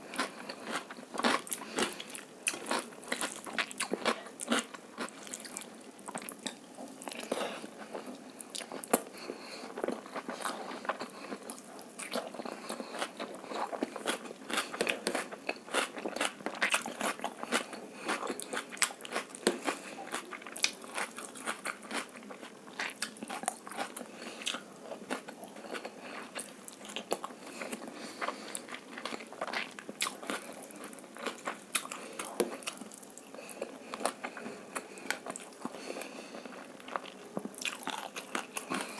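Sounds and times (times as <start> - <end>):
food chewing: 0.0 - 38.9.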